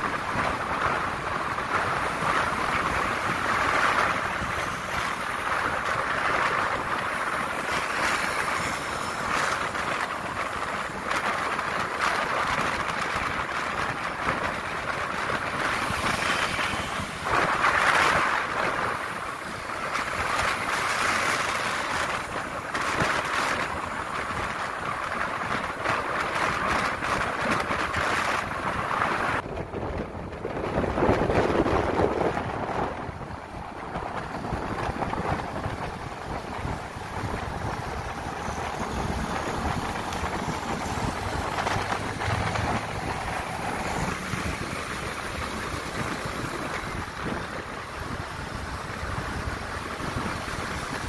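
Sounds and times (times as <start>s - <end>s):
motorbike engine and road noise: 0.0s - 51.0s
wind rushing over microphone: 0.0s - 51.0s.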